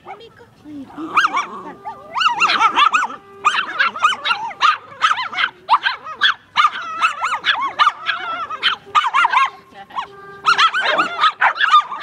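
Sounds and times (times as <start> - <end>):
small dogs yapping: 0.9 - 12.0.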